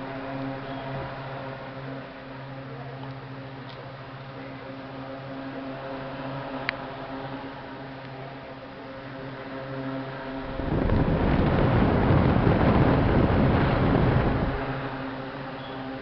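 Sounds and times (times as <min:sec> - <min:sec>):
desk fan motor humming: 0:00.0 - 0:16.0
fan wind rush on microphone: 0:00.0 - 0:16.0.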